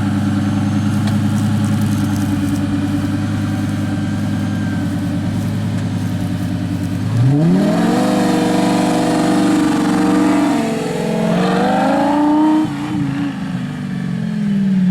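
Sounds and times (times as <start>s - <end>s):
sports car engine revving: 0.0s - 14.9s.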